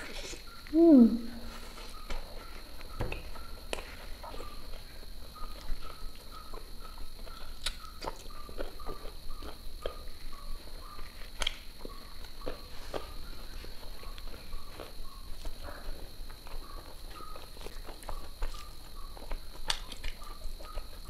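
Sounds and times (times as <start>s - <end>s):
chewing and mouth clicks: 1.9s - 21.0s.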